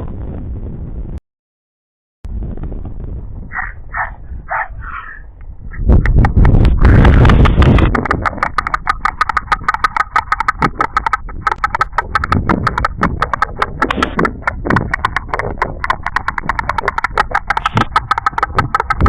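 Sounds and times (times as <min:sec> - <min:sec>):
storks clattering bills: 0:03.5 - 0:19.0.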